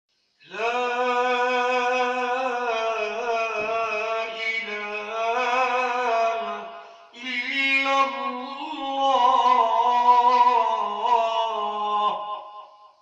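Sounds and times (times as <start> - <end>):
man singing devotional chant: 0.4 - 12.9.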